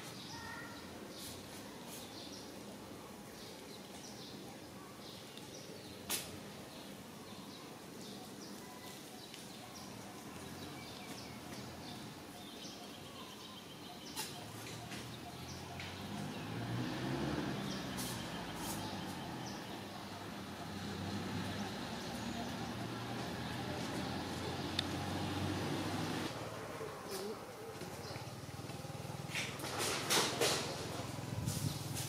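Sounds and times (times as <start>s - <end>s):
birds chirping: 0.0s - 29.7s.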